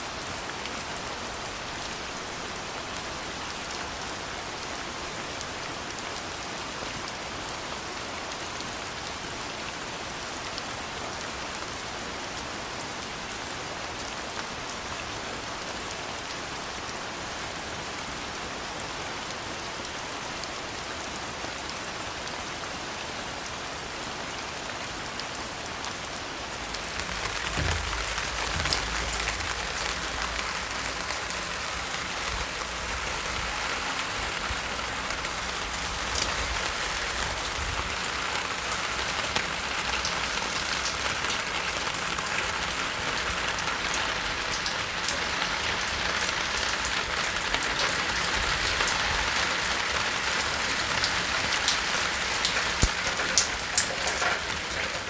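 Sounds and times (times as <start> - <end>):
soft rain falling: 0.0 - 55.0.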